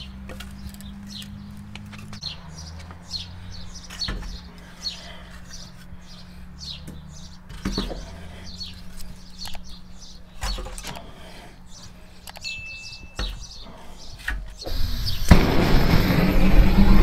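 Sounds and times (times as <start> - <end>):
small birds chirping: 0.0 - 15.4.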